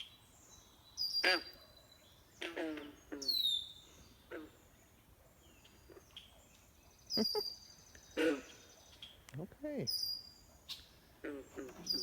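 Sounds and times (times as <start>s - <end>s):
birdsong: 0.0s - 12.0s.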